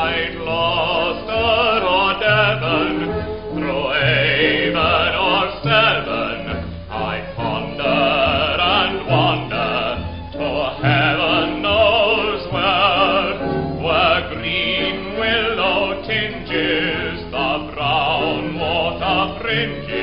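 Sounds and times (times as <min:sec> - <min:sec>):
man singing operatically: 0:00.0 - 0:20.0
musical accompaniment: 0:00.0 - 0:20.0.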